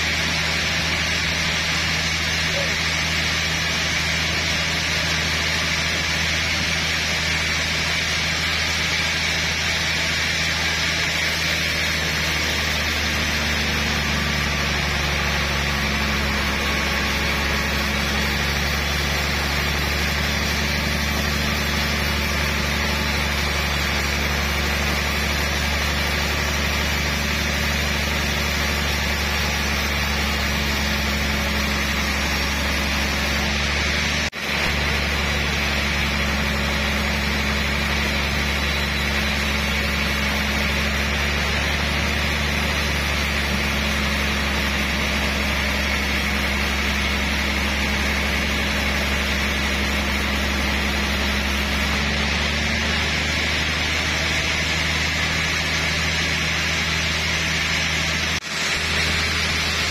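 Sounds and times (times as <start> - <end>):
sawmill machine hum: 0.0 - 59.9.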